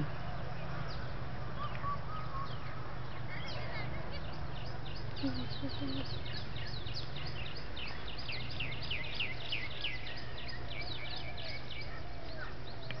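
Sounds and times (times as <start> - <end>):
bird chirping: 0.0 - 13.0
low ambient hum: 0.0 - 13.0.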